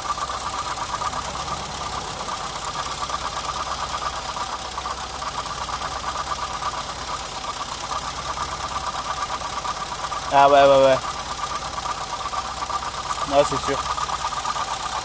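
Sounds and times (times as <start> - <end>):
car engine idling: 0.0 - 15.0
fast even ticking: 0.0 - 15.0.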